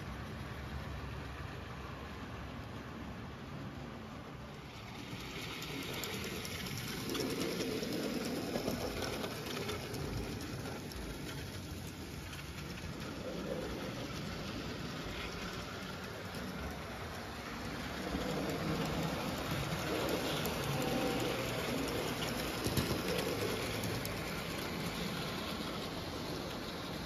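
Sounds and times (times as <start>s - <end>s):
model train rolling on track: 0.0s - 27.0s.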